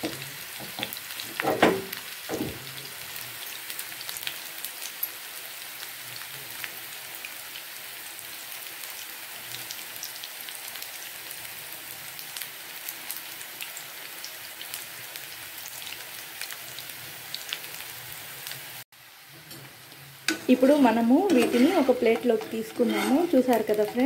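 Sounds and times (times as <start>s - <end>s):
banana slices frying in oil: 0.0s - 24.0s.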